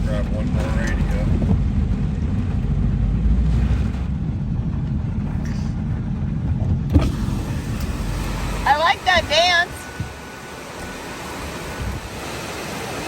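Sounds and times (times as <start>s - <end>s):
vehicle rumbling: 0.0s - 13.0s.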